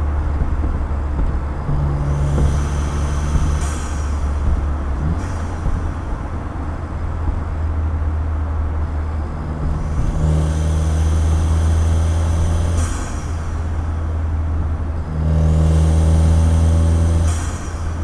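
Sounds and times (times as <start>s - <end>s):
car engine and exhaust driving: 0.0s - 18.0s.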